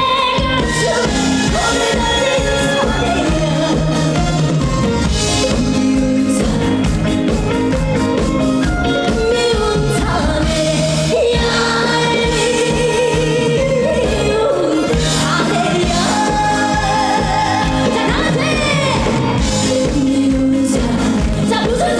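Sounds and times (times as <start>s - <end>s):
musical accompaniment: 0.0s - 21.9s
woman singing pop song: 0.0s - 21.9s.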